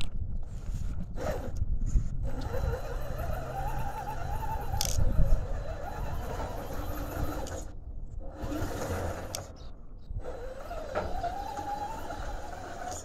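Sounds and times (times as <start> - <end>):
electric motor whining: 1.2 - 13.0.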